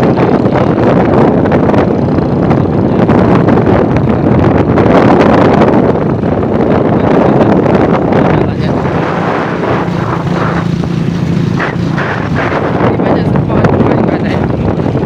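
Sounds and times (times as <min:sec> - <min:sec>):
vehicle engine running: 0:00.0 - 0:15.0
wind buffeting microphone: 0:00.0 - 0:15.0.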